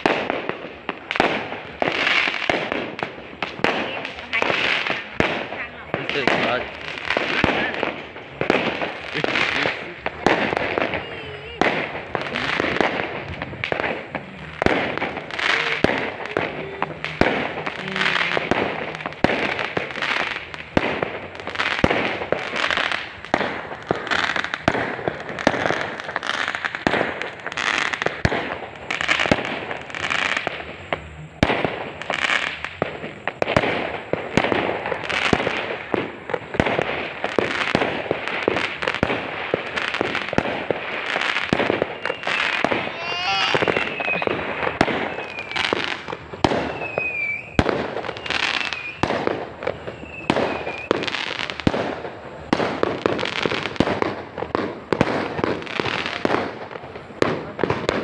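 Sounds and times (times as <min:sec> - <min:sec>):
fireworks and firecrackers banging: 0:00.0 - 0:58.0.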